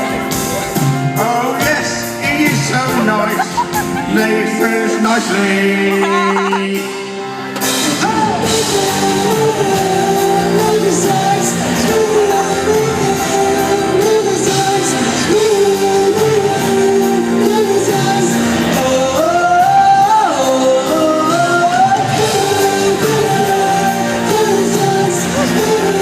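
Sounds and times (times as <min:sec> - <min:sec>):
live pop band playing: 0:00.0 - 0:26.0
person singing: 0:00.0 - 0:26.0.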